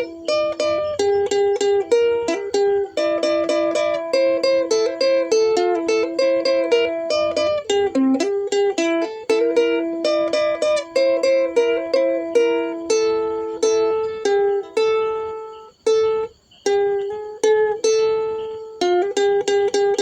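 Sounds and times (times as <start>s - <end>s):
ukulele fingerstyle melody: 0.0s - 20.0s.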